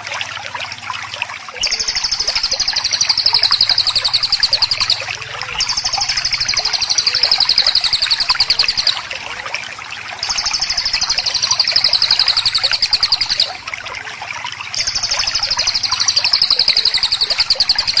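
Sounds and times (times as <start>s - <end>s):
songbird harsh trill: 1.6s - 9.2s, 10.2s - 13.7s, 14.8s - 18.0s
soft bird chirps: 1.6s - 9.6s, 10.2s - 13.7s, 14.6s - 18.0s.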